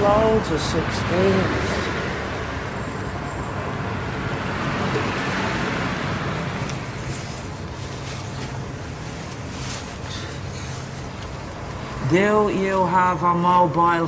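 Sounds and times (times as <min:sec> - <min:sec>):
road traffic rumbling: 0:00.0 - 0:14.0.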